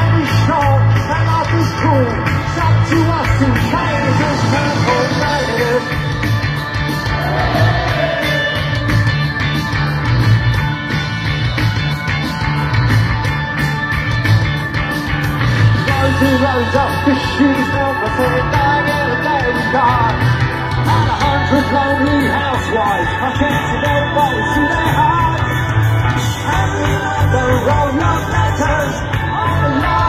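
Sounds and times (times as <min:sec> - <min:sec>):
heavy bass: 0:00.0 - 0:30.0
live rock band playing: 0:00.0 - 0:30.0
steady drumbeat: 0:00.0 - 0:30.0.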